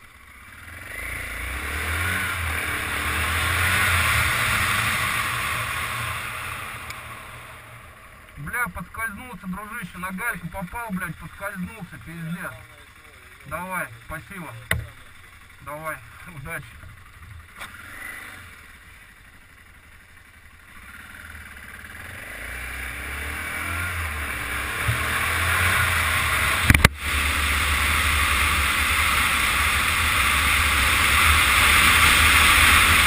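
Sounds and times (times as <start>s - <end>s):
motorcycle riding: 0.0s - 33.0s.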